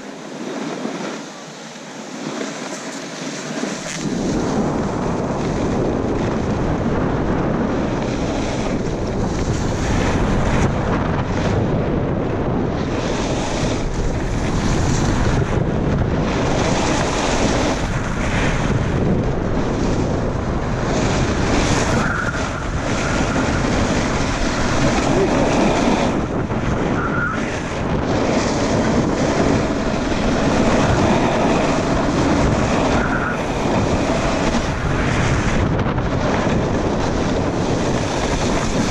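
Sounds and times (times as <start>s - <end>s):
snowboards sliding on snow: 0.0s - 38.9s
wind buffeting microphone: 0.0s - 38.9s.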